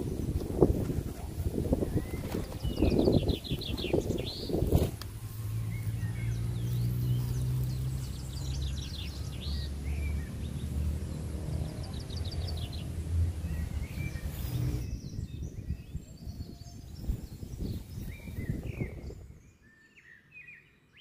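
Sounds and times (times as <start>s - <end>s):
wind rumbling on microphone: 0.0s - 19.7s
birds chirping: 0.0s - 21.0s.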